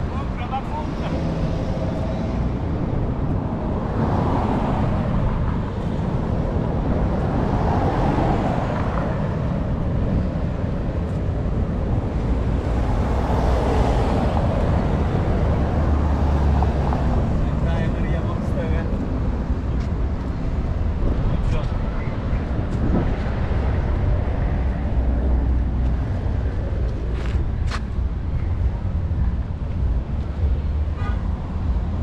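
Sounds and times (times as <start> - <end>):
vehicles passing: 0.0 - 32.0.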